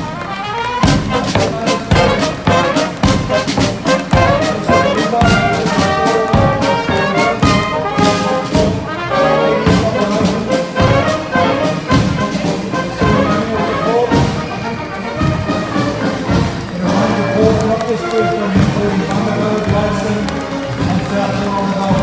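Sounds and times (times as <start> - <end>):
steady drum beat: 0.0 - 22.0
trumpets and trombones: 0.0 - 22.0.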